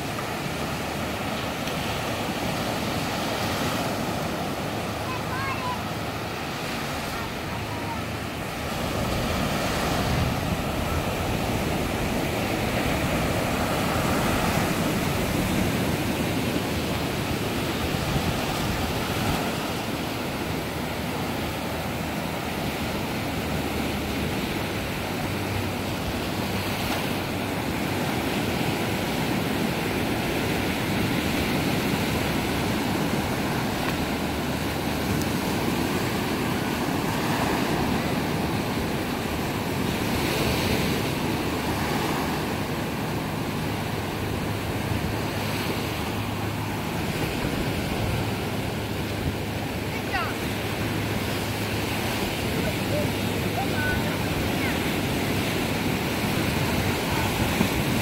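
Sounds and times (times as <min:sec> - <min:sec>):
small waves breaking on beach: 0:00.0 - 0:58.0.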